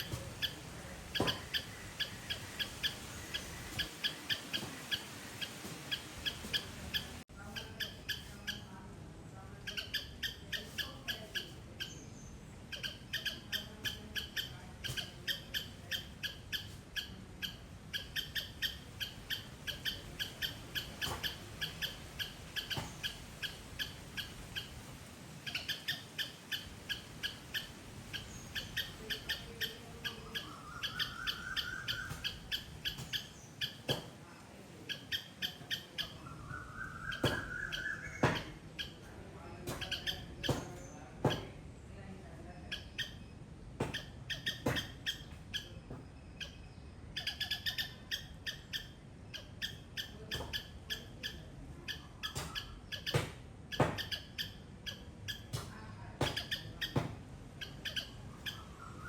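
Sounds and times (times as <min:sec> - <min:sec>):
squirrel chirping calls: 0:00.0 - 0:08.8, 0:09.5 - 0:41.6, 0:42.6 - 0:59.0.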